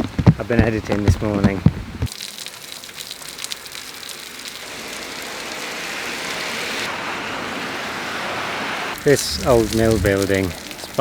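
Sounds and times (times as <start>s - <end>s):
steady rain hiss: 0.1s - 11.0s.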